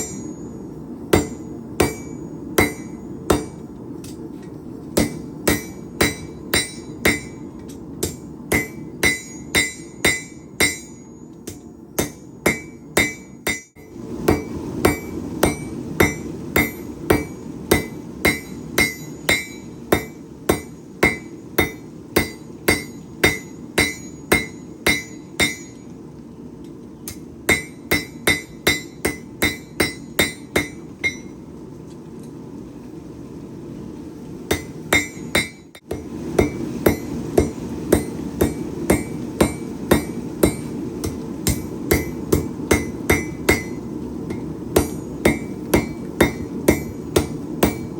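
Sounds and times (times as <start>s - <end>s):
hammer striking metal on anvil: 0.0s - 0.5s, 1.1s - 4.2s, 5.0s - 25.8s, 27.1s - 31.4s, 34.5s - 47.9s.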